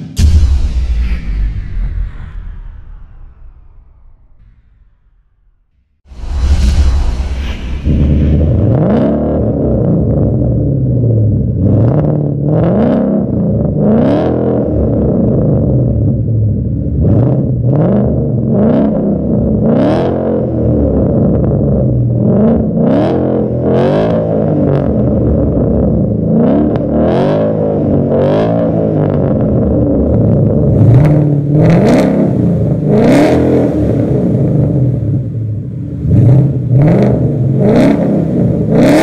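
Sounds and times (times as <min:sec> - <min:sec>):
car engine revving: 0:06.1 - 0:39.0.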